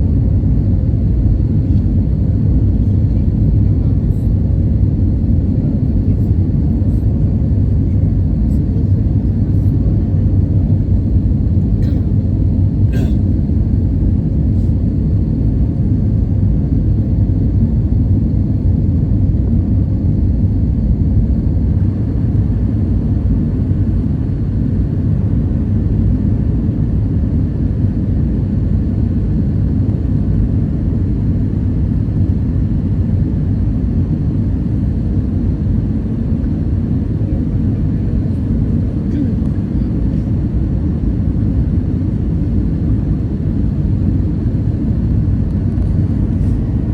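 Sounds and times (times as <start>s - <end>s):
aircraft cabin engine rumble: 0.0s - 46.9s.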